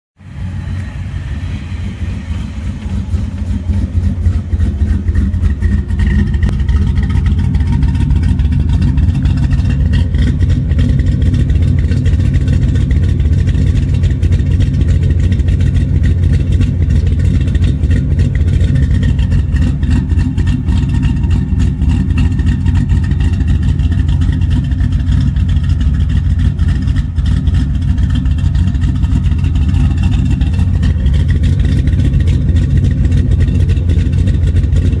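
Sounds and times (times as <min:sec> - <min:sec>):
car engine idling: 0:00.2 - 0:35.0.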